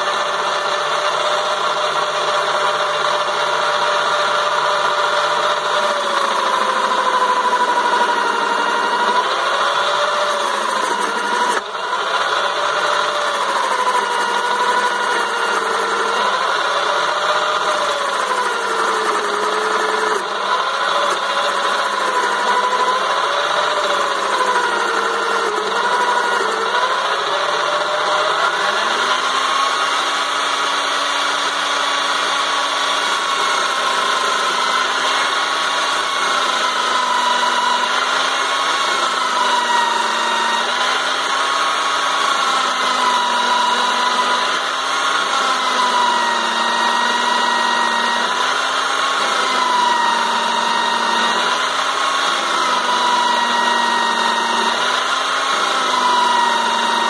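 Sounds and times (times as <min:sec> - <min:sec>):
chisel scraping spinning wood: 0:00.0 - 0:57.0
lathe motor whining: 0:00.0 - 0:57.0.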